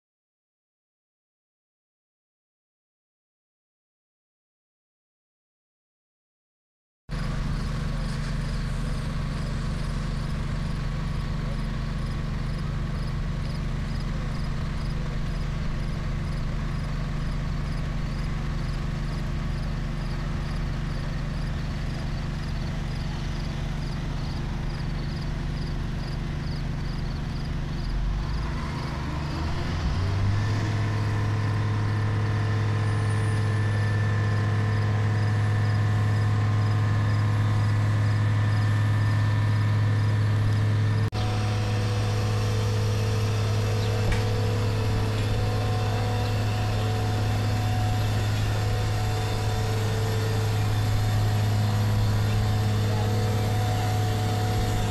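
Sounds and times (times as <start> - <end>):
crane diesel engine running: 7.1 - 54.9
engine revving with rising whine: 7.2 - 54.9.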